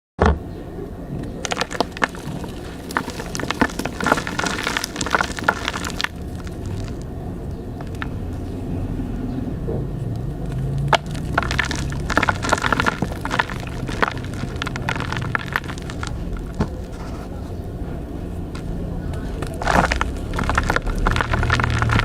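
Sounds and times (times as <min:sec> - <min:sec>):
slime crackling and popping: 0:01.3 - 0:08.6, 0:10.3 - 0:22.0.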